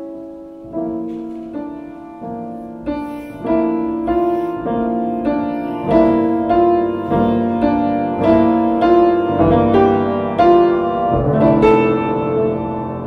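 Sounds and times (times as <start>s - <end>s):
slow melodic piano piece: 0.0s - 13.0s.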